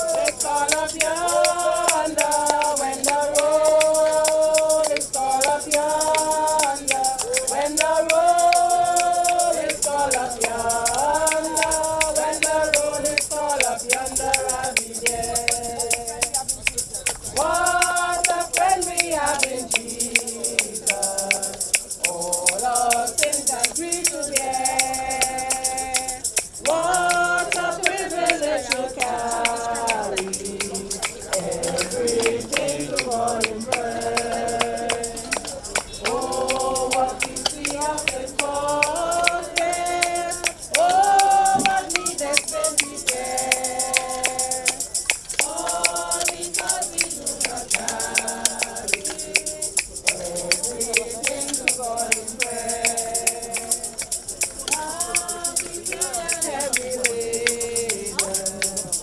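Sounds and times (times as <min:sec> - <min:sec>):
group singing a hymn: 0:00.0 - 0:59.0
hand percussion beat: 0:00.0 - 0:59.0.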